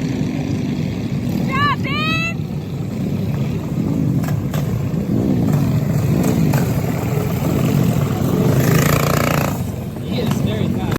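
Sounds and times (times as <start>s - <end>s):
mini bike engines revving: 0.0s - 10.9s.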